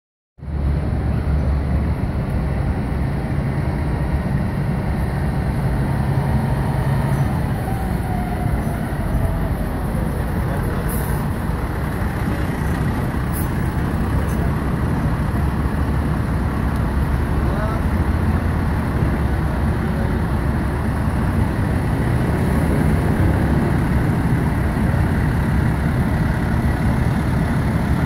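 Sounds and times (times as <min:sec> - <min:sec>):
diesel truck engine rumble: 0:00.4 - 0:28.0.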